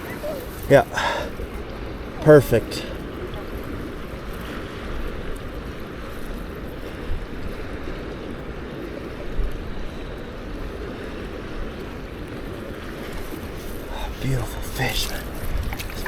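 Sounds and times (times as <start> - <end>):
river water rushing: 0.0 - 16.0
wind on microphone: 2.9 - 16.0.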